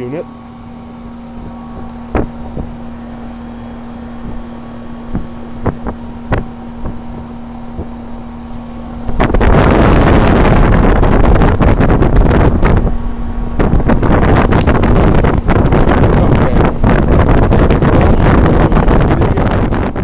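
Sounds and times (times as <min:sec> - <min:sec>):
fan air rushing across microphone: 0:00.0 - 0:20.0
heat pump humming: 0:00.0 - 0:20.0.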